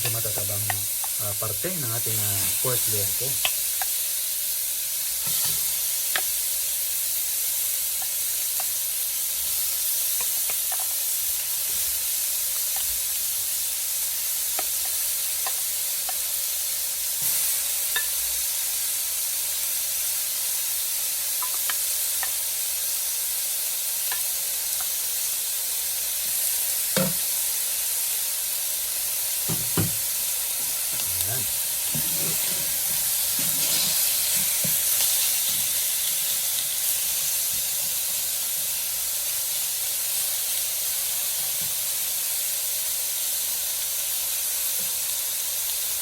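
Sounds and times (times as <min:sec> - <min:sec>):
pork sizzling in a hot pan: 0:00.0 - 0:46.0.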